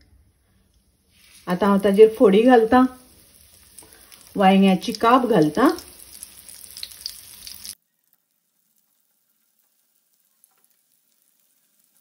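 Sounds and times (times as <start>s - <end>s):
food sizzling in hot oil: 1.1s - 12.0s.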